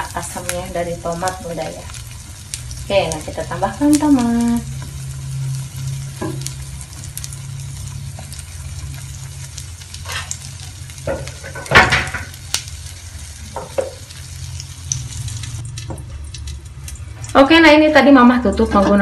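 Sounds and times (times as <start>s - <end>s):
omelette sizzling in oil: 0.0s - 19.0s.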